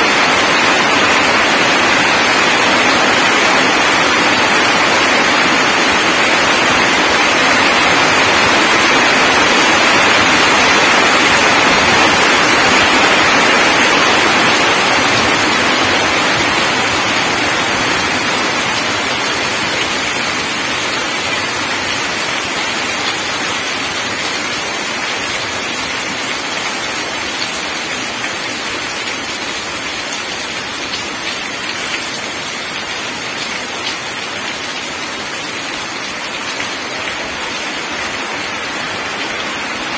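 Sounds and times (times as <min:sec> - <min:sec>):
heavy rain splashing on puddles: 0:00.0 - 0:39.9.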